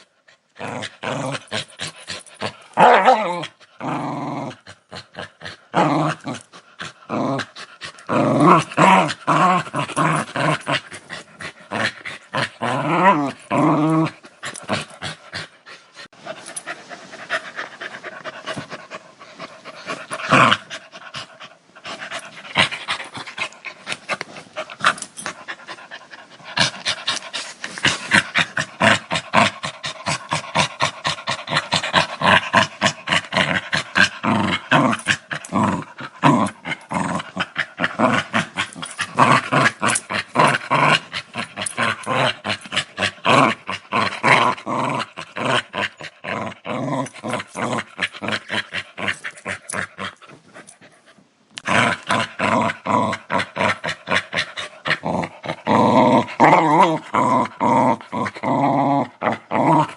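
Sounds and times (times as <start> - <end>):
dog growling: 0.6 - 16.7, 17.3 - 50.8, 51.6 - 59.9.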